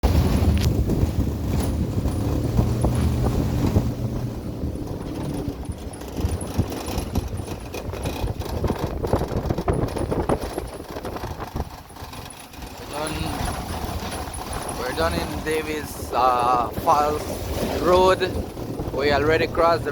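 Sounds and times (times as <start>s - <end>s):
vehicle knocks and rattles: 0.0s - 16.2s, 17.5s - 19.9s
vehicle engine hum: 0.0s - 19.9s.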